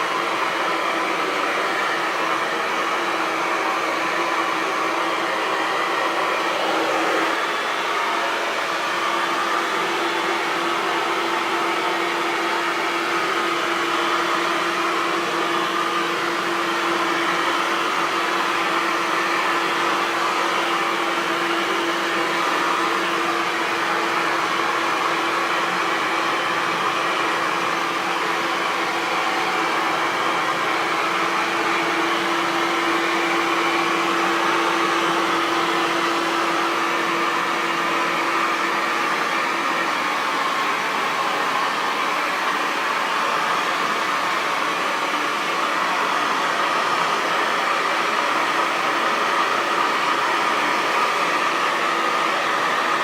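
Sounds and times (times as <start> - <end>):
hair dryer running: 0.0 - 53.0.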